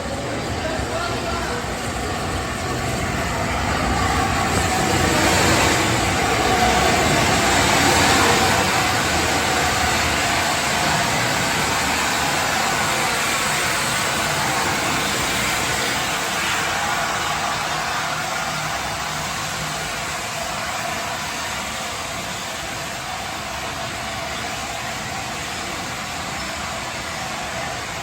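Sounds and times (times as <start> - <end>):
steam train rushing: 0.0 - 28.0.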